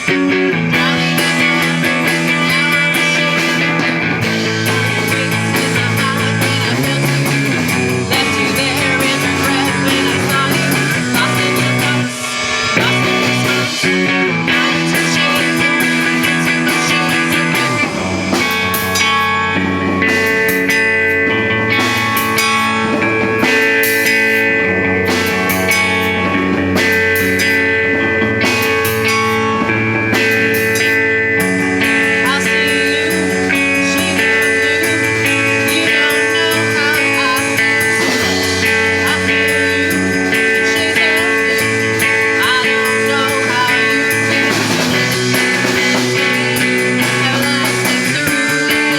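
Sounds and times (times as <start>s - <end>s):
drums: 0.0s - 48.9s
rock band playing: 0.0s - 48.9s
sustained guitar notes: 0.0s - 48.9s.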